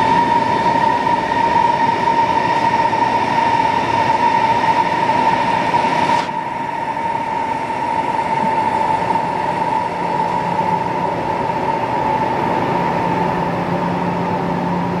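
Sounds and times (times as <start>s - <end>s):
train rail noise with whine: 0.0s - 15.0s.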